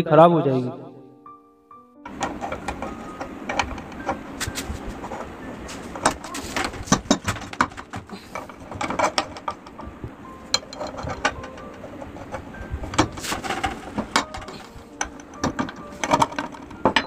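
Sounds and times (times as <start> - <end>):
metal clicks and knocks: 2.1 - 17.0
metal scraping: 2.1 - 17.0.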